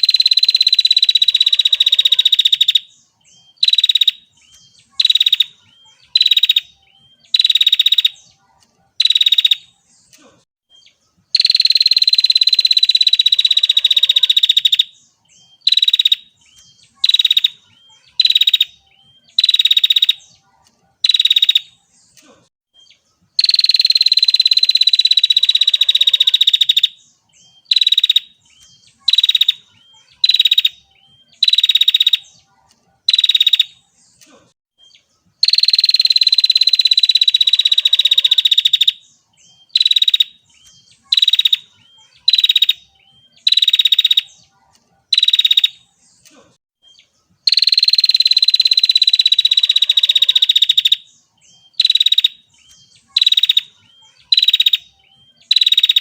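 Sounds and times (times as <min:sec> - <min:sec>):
bird calling with buzzy trills: 0:00.0 - 0:34.2, 0:34.8 - 0:56.0.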